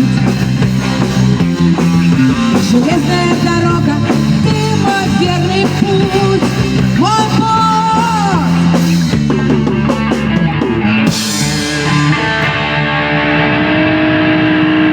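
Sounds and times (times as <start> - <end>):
rock band with singing: 0.0 - 14.9
sustained guitar tones: 0.0 - 14.9.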